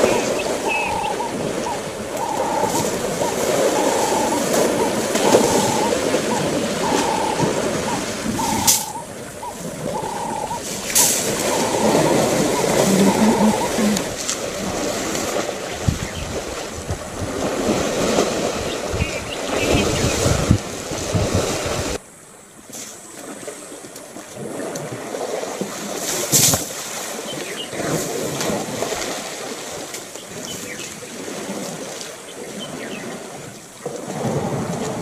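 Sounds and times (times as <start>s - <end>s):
elephants splashing water: 0.0s - 22.0s, 22.7s - 35.0s
wind rumbling on microphone: 0.0s - 22.0s, 23.1s - 35.0s.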